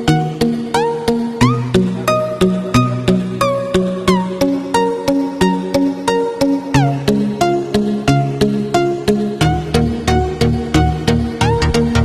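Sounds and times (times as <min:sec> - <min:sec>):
plucked notes background music: 0:00.0 - 0:12.0.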